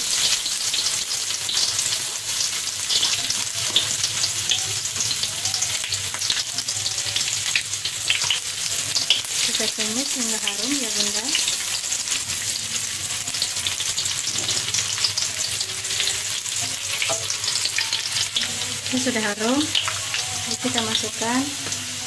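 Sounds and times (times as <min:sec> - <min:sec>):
garlic sizzling in hot oil: 0:00.0 - 0:22.0.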